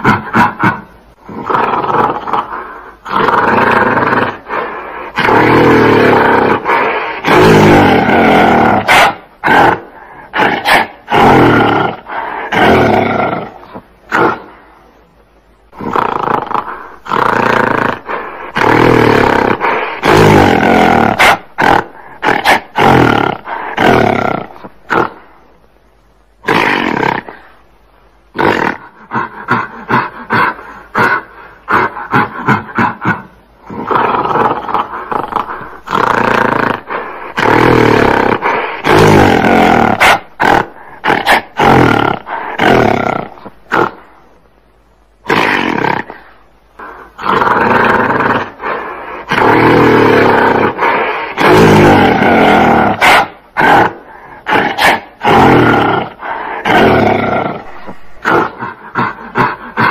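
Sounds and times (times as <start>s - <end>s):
gorilla roaring: 0.0s - 14.6s, 15.7s - 25.2s, 26.4s - 27.5s, 28.3s - 44.1s, 45.2s - 59.9s.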